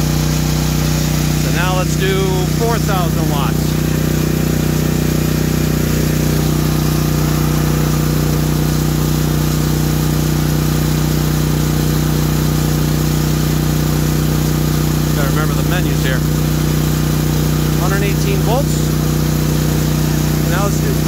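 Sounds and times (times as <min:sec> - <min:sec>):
generator engine humming: 0:00.0 - 0:21.0.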